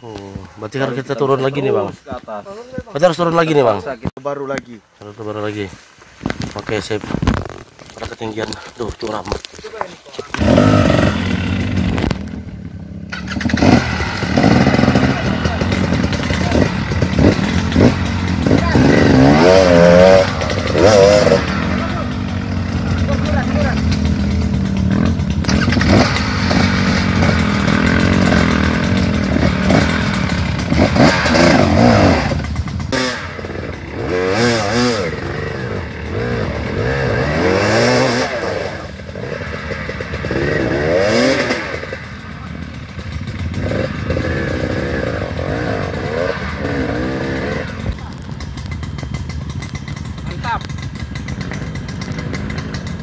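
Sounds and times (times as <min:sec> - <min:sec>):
dirt bike engines revving: 0:00.0 - 0:04.0, 0:07.9 - 0:53.0.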